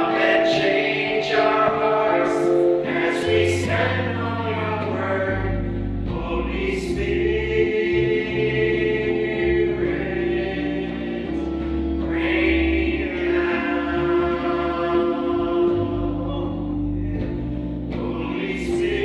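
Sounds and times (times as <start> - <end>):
group singing a hymn: 0.0 - 19.0
instrumental accompaniment: 0.0 - 19.0.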